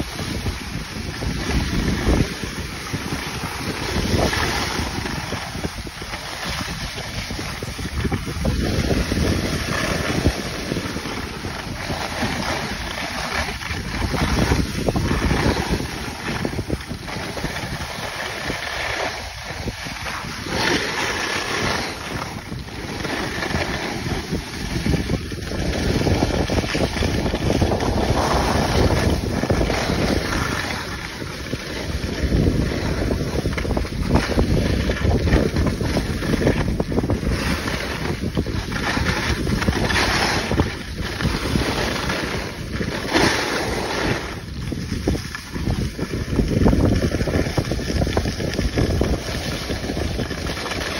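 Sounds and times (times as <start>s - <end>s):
skis sliding on snow: 0.0s - 50.9s
wind on microphone: 0.0s - 50.9s.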